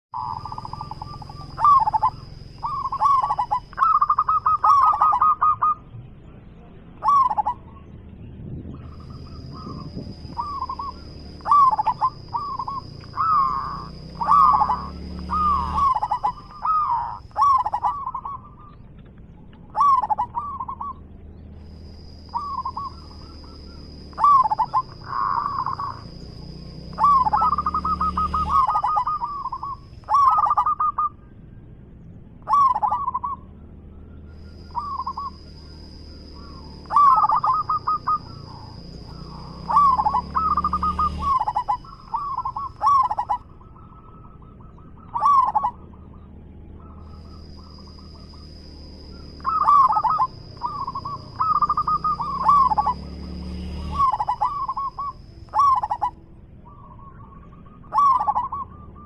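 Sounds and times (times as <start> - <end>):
doves cooing: 0.1 - 59.0.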